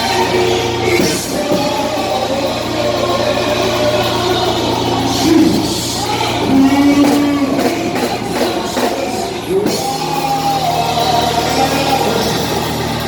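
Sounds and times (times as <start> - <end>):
band with guitar: 0.0 - 13.0
singer holding long notes: 0.0 - 13.0.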